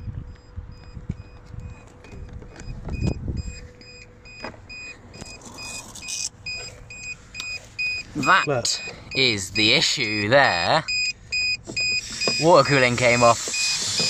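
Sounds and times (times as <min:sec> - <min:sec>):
low rumbling: 0:00.0 - 0:11.7.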